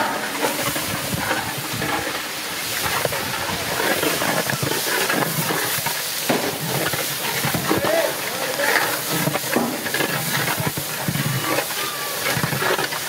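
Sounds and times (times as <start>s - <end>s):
boiling water bubbling: 0.0s - 13.0s
rice splashing into water: 0.1s - 13.0s.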